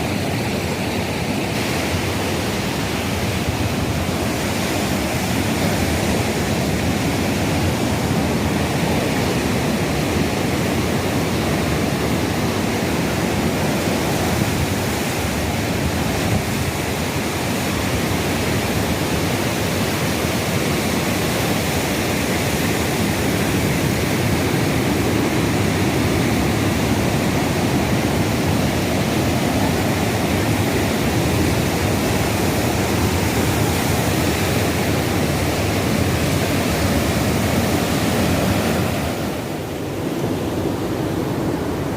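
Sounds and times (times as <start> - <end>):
wind rushing over microphone: 0.0 - 41.9.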